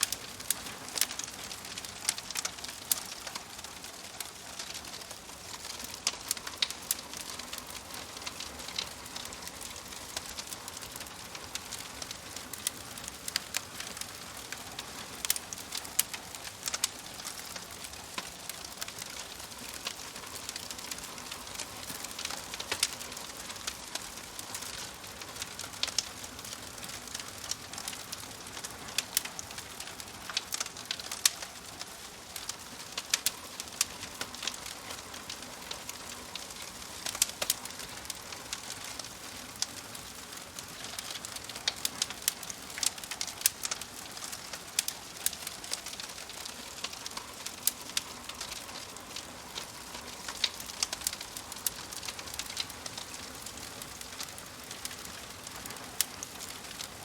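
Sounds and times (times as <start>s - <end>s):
burning logs hissing: 0.0s - 57.0s
wood fire crackling: 0.0s - 57.0s.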